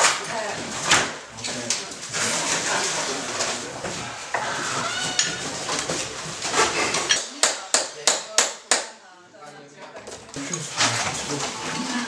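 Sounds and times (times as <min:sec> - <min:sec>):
dishes and wood rattling: 0:00.0 - 0:08.3, 0:09.9 - 0:12.0.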